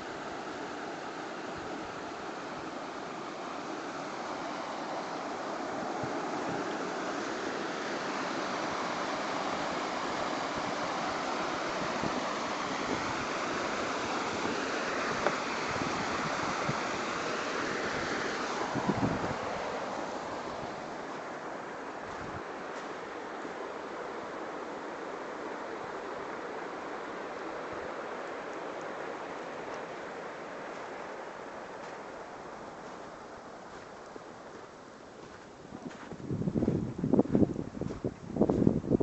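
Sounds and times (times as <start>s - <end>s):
creek rushing over rocks: 0.0s - 36.2s.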